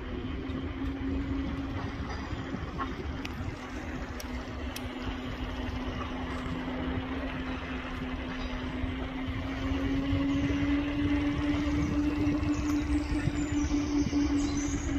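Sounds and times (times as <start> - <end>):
road noise: 0.0 - 14.9
vehicle engine drone: 0.0 - 14.9.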